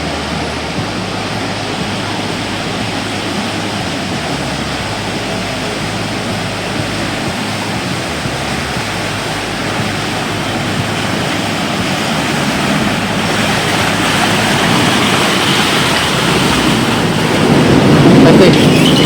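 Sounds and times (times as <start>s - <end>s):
boat engine rushing: 0.0s - 19.0s.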